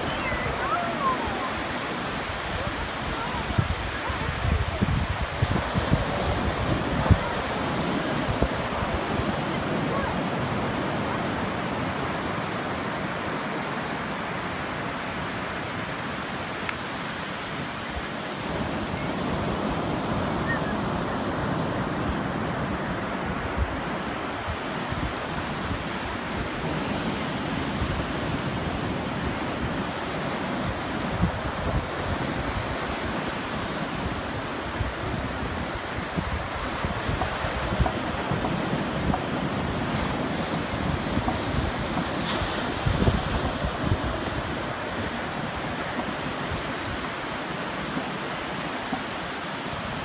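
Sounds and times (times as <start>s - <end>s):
ocean surf breaking on beach: 0.0s - 50.0s
wind buffeting microphone: 0.0s - 50.0s.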